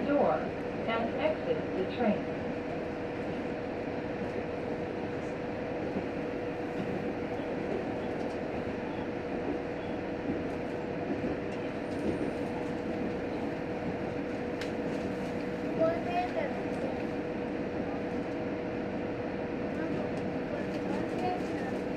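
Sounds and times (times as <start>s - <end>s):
constant hum: 0.0s - 21.9s
train rumbling on rails: 0.0s - 21.9s.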